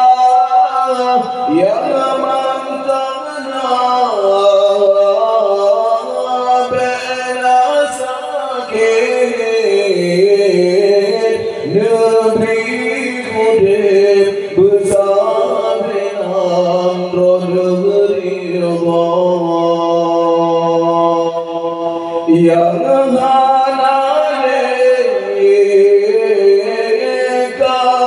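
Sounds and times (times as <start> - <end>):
man singing long held notes: 0.0 - 28.0.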